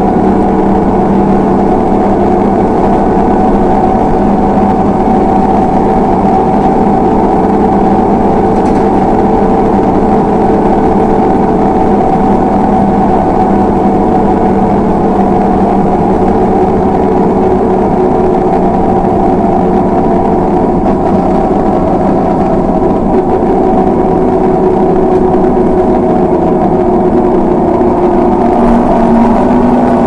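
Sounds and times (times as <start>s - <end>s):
bus engine drone: 0.0s - 30.0s.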